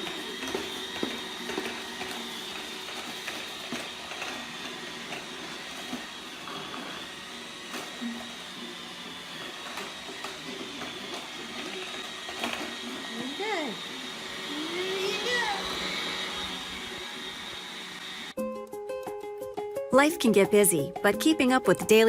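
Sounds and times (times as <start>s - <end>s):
robot vacuum whirring: 0.0s - 18.4s.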